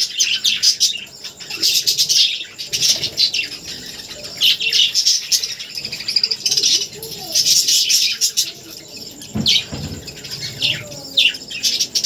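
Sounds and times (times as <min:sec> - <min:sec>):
budgerigars chirping and chattering: 0:00.0 - 0:12.0.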